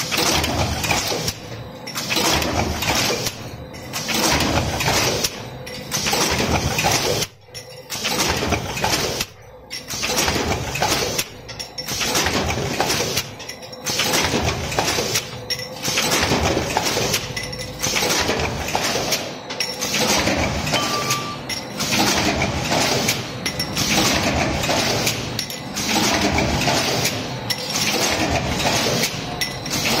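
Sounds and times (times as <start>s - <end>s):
metallic clattering machinery: 0.0s - 30.0s.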